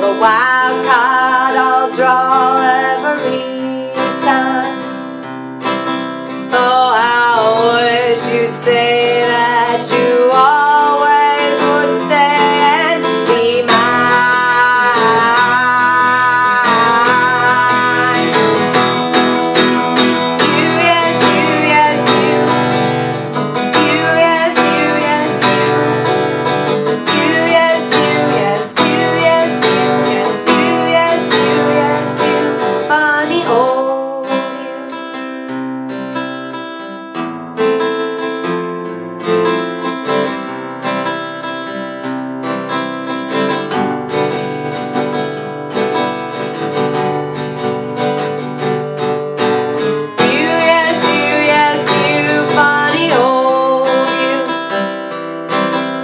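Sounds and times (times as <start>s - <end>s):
woman singing: 0.0s - 5.3s, 6.3s - 36.2s, 43.4s - 55.9s
acoustic guitar strumming: 0.0s - 56.0s.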